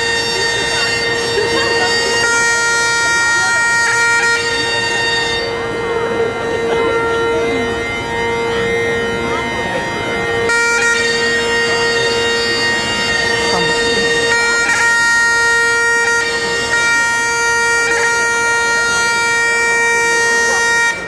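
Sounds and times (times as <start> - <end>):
bagpipe chanter melody: 0.0 - 21.0
bagpipe drones: 0.0 - 21.0.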